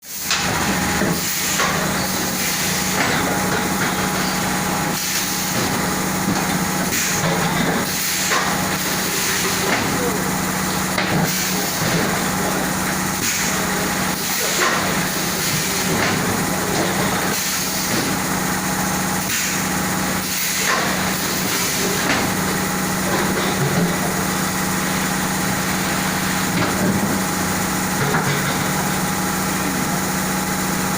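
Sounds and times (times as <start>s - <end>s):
washing machine mechanical noise: 0.0s - 30.9s.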